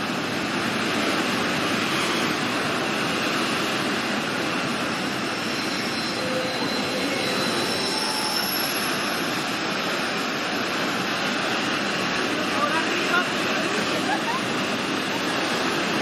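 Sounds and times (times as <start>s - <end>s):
heavy surf breaking: 0.0s - 16.0s.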